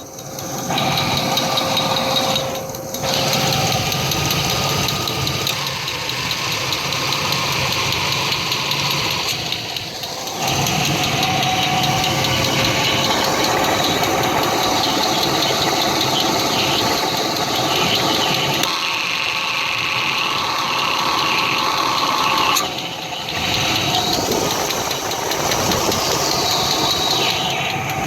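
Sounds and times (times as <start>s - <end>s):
engine running with a knock: 0.0s - 28.0s.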